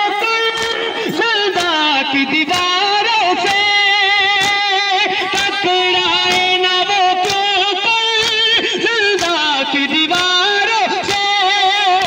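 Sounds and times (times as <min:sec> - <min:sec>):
person chanting a lament: 0:00.0 - 0:12.0
chest beating in unison: 0:00.4 - 0:11.3.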